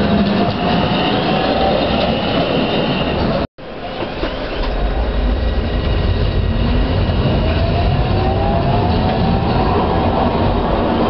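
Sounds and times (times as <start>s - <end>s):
tram wheel rumble: 0.0s - 11.0s.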